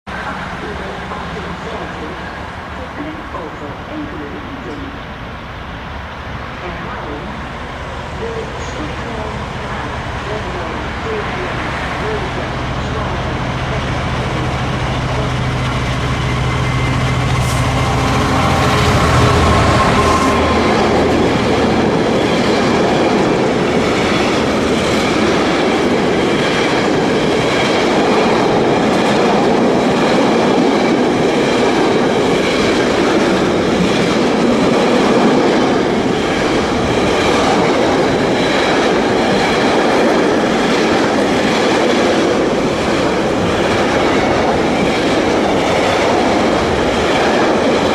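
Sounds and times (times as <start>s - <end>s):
diesel locomotive engine drone: 0.1s - 47.9s.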